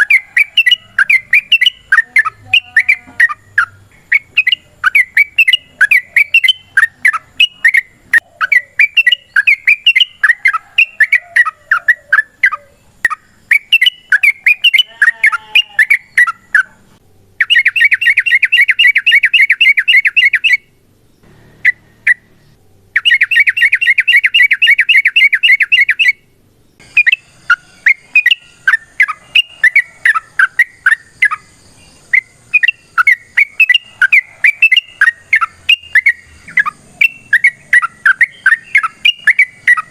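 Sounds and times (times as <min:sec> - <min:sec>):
bird chattering song: 0:00.0 - 0:39.9
bird fast rolling trills: 0:00.0 - 0:39.9.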